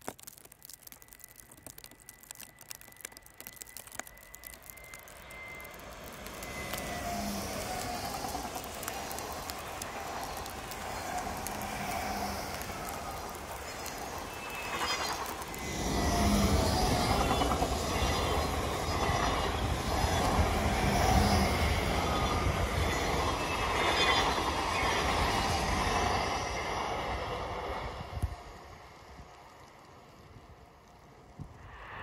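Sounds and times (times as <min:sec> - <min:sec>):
electric train passing: 0:04.3 - 0:32.0.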